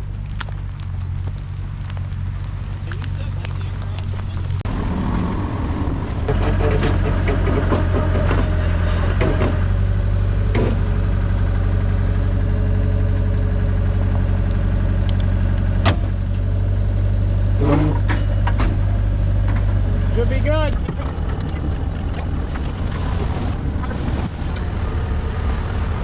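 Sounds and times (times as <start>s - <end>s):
large engine idling: 0.0s - 26.0s.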